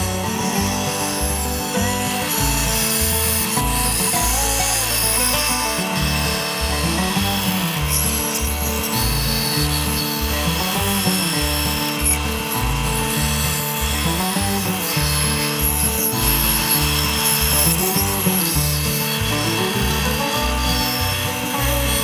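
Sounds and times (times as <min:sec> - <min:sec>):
bandsaw cutting wood: 0:00.0 - 0:22.0.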